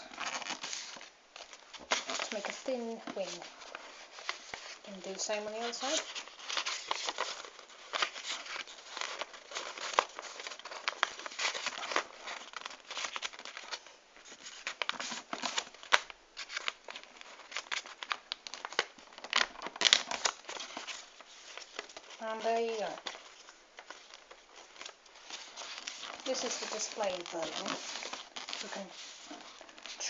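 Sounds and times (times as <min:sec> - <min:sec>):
paper crackling as folds pressed: 0:00.0 - 0:30.0
paper rustling and crinkling: 0:00.0 - 0:30.0.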